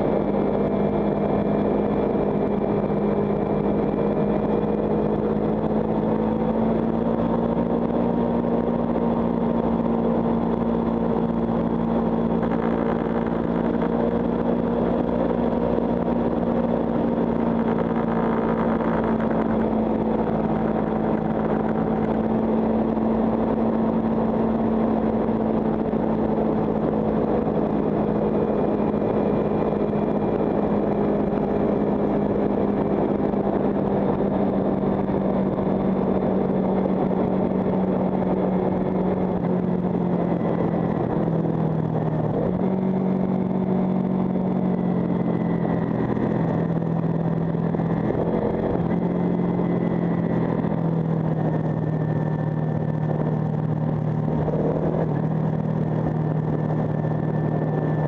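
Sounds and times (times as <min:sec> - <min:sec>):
motorcycle engine cruising: 0:00.0 - 0:58.0
wind rush: 0:00.0 - 0:58.0.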